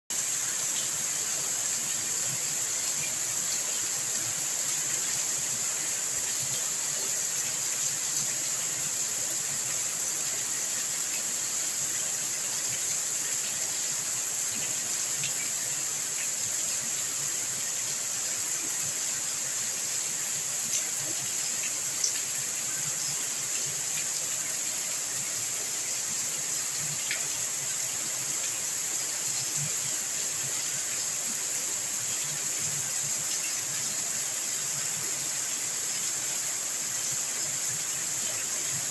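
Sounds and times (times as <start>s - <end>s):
steady rain hiss: 0.1s - 38.9s.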